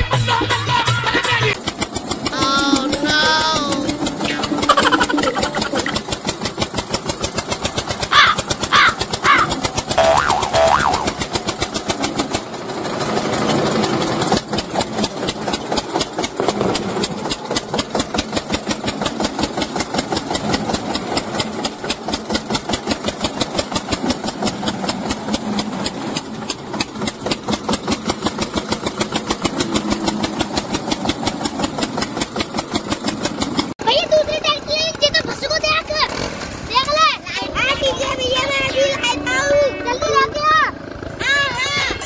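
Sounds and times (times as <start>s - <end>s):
tractor engine chugging: 0.4s - 42.0s.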